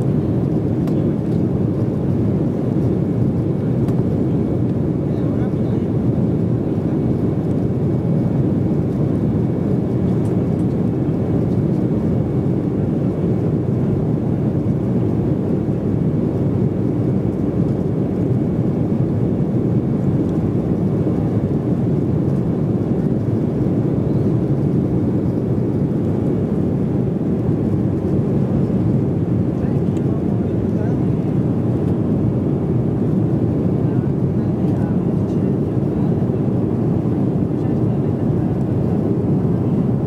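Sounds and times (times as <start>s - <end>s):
jet engines droning: 0.0s - 40.0s.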